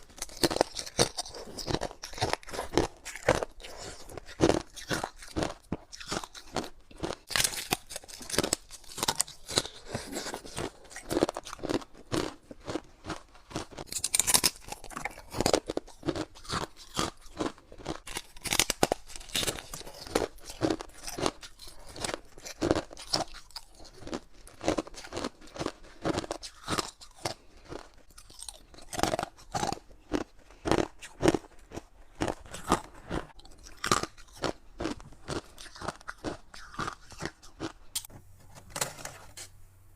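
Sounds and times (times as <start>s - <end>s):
chewing and crunching ice: 0.0s - 38.1s.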